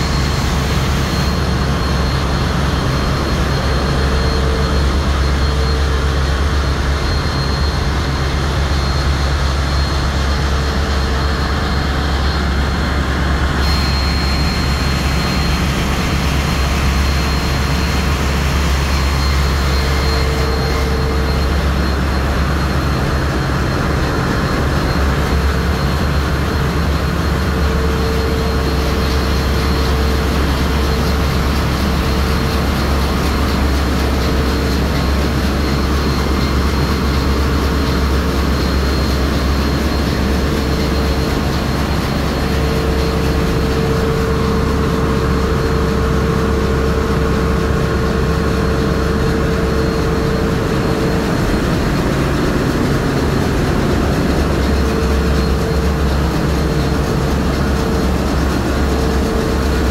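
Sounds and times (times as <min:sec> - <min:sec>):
engine-room machinery drone: 0:00.0 - 0:59.9
high steady machine whine: 0:00.0 - 0:59.9.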